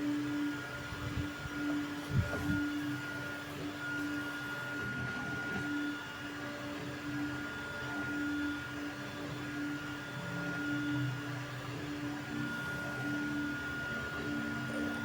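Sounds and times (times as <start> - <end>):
high fan tone: 0.0 - 15.0.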